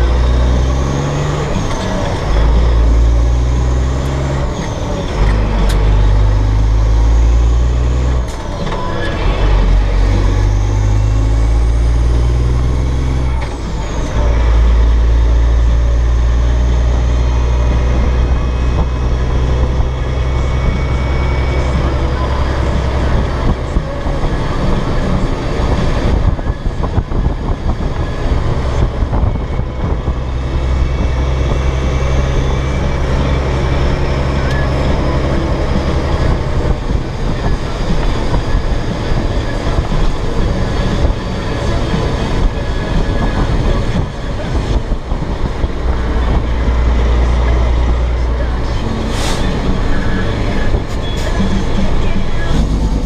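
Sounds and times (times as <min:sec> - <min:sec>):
truck diesel engine shifting gears: 0:00.0 - 0:53.0.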